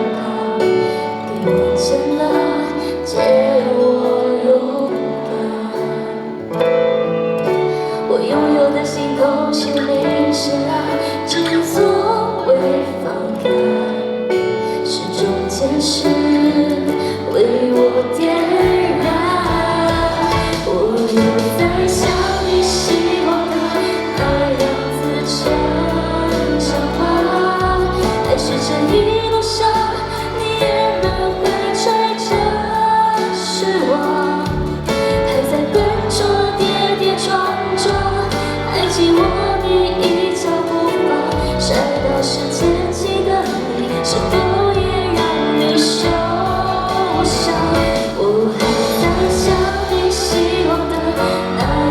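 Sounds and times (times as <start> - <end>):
crowd singing along: 0.0 - 51.9
live pop song: 0.0 - 51.9
woman singing: 0.0 - 51.9.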